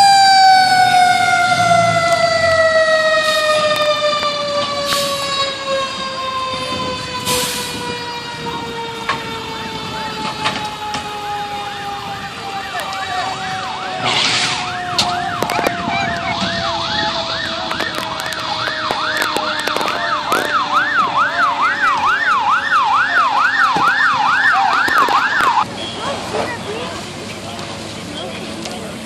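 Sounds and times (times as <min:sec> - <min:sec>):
siren steady tone falling: 0:00.0 - 0:25.6
siren yelping: 0:00.0 - 0:25.7.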